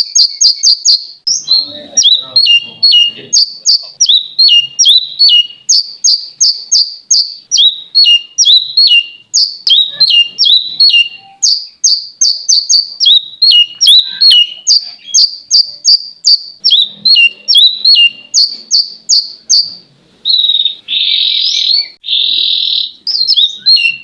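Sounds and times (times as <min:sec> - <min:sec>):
bird singing: 0:00.0 - 0:24.0.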